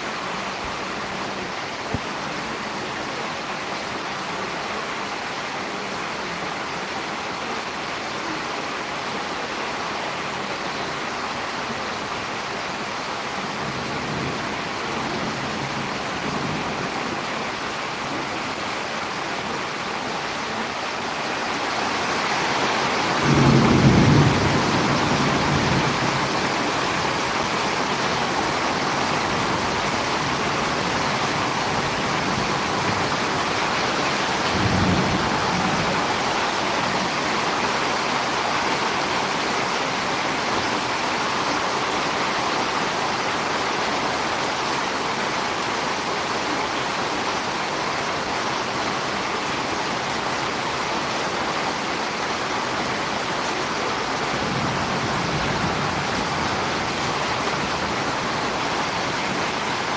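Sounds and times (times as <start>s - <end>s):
rain with wind: 0.0s - 59.9s.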